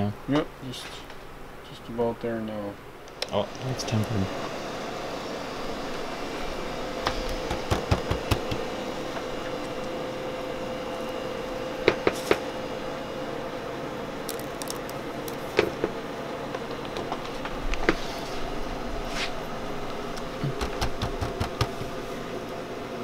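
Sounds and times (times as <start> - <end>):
room hum with faint tone: 0.0 - 23.0.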